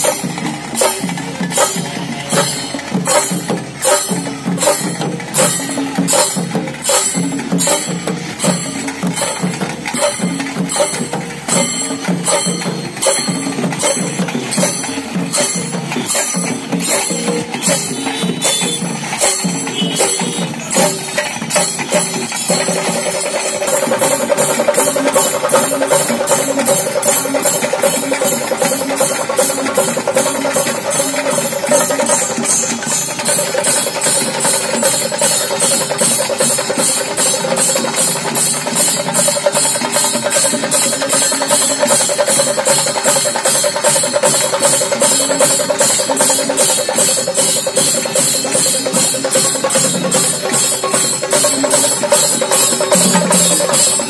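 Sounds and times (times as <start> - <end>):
drums beaten with sticks: 0.0 - 54.0
hand cymbals ringing: 0.0 - 54.0.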